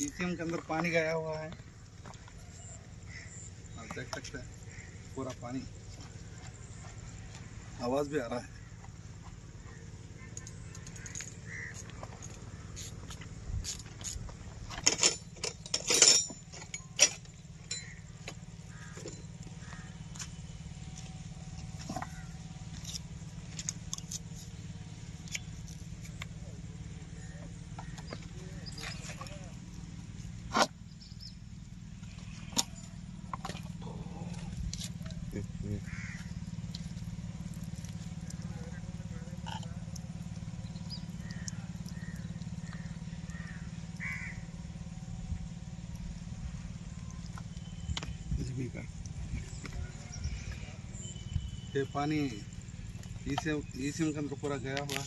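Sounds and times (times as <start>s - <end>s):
bird calling: 0.0s - 13.8s, 16.1s - 45.8s, 46.5s - 55.0s
low engine drone: 0.0s - 55.0s.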